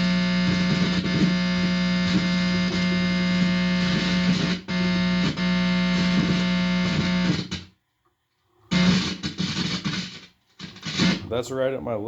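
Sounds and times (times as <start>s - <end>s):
guitar amplifier buzz: 0.0s - 7.7s, 8.7s - 11.3s.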